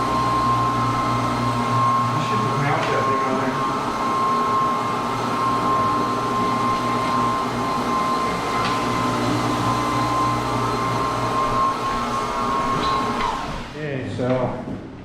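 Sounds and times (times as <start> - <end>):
floor buffer motor hum and whine: 0.0 - 14.6.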